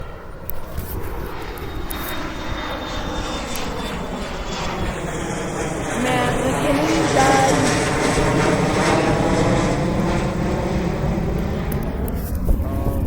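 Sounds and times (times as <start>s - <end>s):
aircraft engine rushing rumble: 0.0s - 13.0s.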